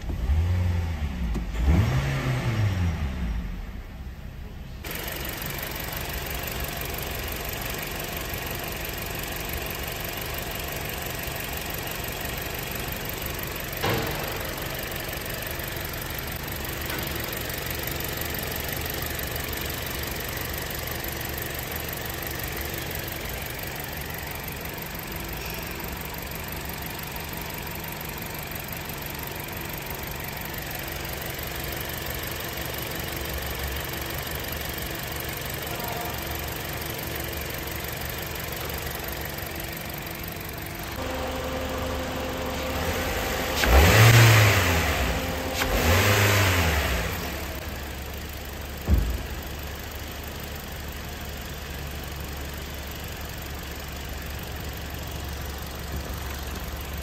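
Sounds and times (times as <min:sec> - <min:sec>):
car engine idling: 0:00.0 - 0:01.9, 0:03.0 - 0:57.0.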